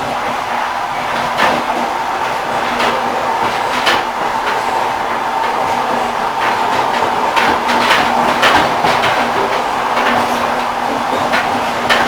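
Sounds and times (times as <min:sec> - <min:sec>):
train wheels rolling on track: 0:00.0 - 0:12.0
faint clacks over rail joints: 0:01.1 - 0:12.0.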